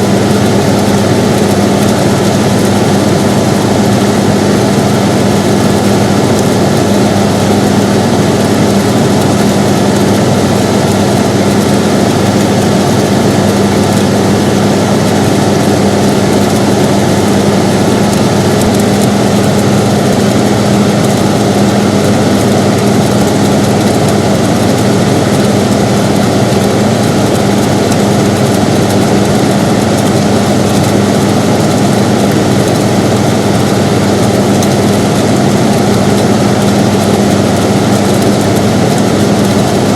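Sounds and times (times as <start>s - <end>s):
air conditioner running: 0.0s - 39.9s.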